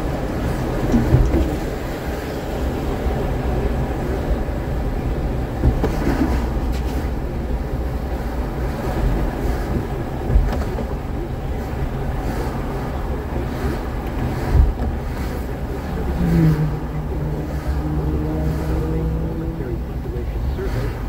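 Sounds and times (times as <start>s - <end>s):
tyre and engine rumble: 0.0s - 21.0s.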